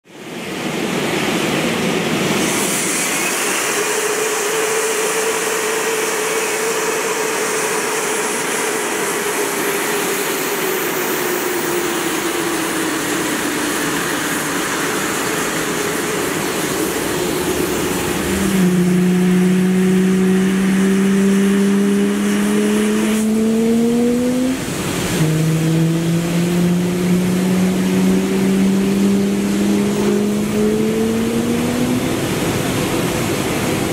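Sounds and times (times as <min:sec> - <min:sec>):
jet engine rushing with whine: 0:00.0 - 0:33.9
lower steady hum rising in pitch: 0:04.1 - 0:33.9.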